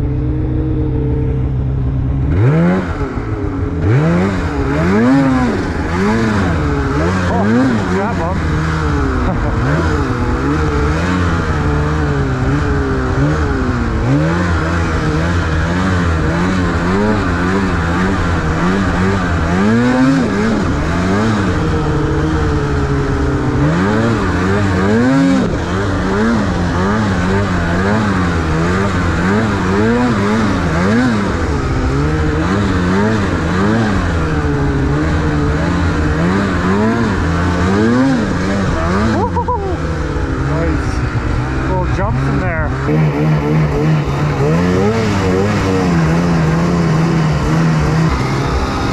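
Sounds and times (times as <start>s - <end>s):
snowmobile engine revving: 0.0s - 48.9s.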